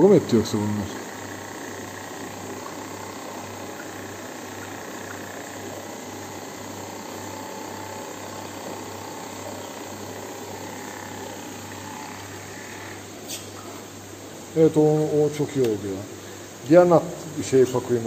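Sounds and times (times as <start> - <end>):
aquarium equipment humming: 0.0 - 18.0
steady hiss: 0.0 - 18.0.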